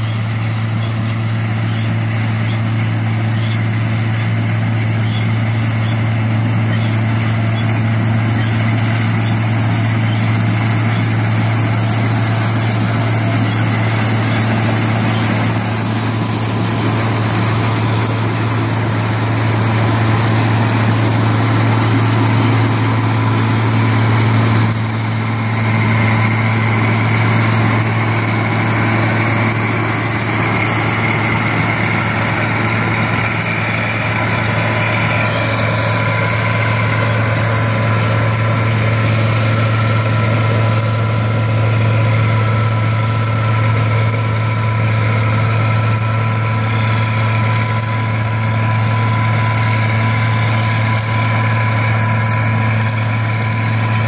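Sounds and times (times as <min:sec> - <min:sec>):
diesel engine droning: 0:00.0 - 0:54.0
harvester machinery noise: 0:00.0 - 0:54.0.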